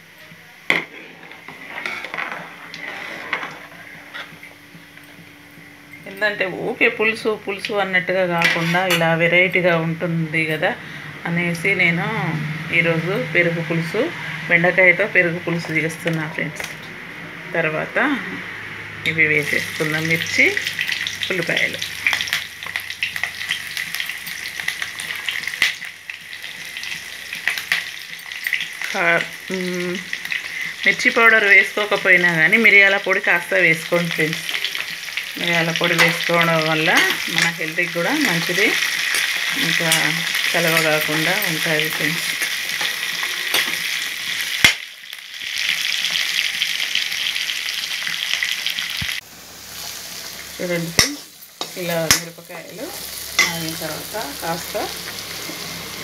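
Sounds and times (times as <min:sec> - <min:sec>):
food sizzling in hot oil: 0:00.0 - 0:11.0, 0:18.2 - 0:56.0.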